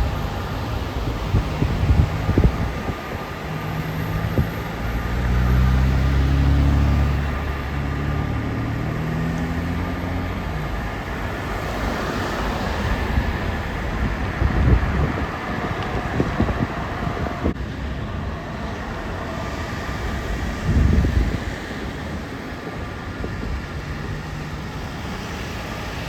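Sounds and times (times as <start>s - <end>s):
low engine hum: 0.0s - 26.0s
steady outdoor roar: 0.0s - 26.0s
wind buffeting microphone: 0.0s - 26.0s.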